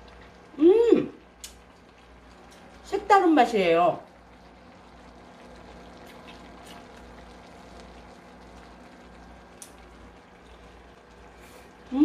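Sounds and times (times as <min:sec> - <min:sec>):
broth simmering and bubbling: 0:00.0 - 0:12.0.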